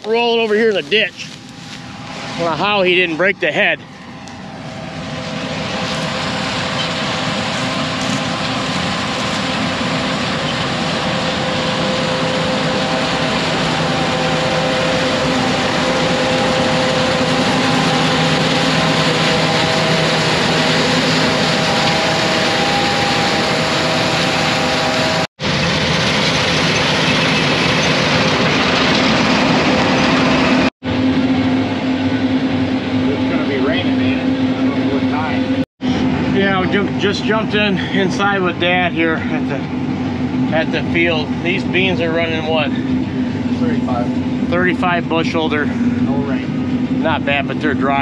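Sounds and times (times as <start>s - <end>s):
combine harvester drone: 0.0s - 48.0s.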